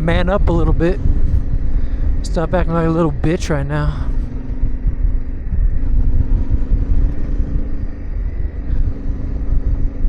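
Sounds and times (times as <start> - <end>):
heavy uneven low rumble: 0.0 - 10.0
motorcycle engine running: 0.0 - 10.0.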